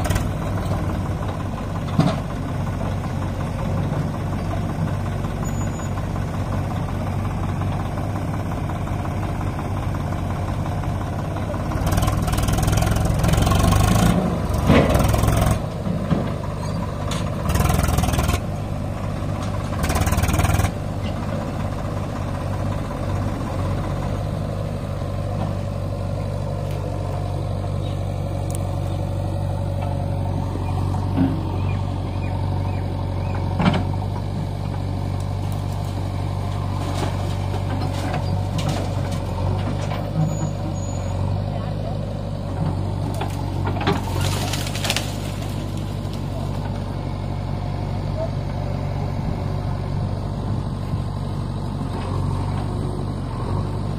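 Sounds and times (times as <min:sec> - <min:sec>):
diesel engines running at low revs: 0:00.0 - 0:53.9.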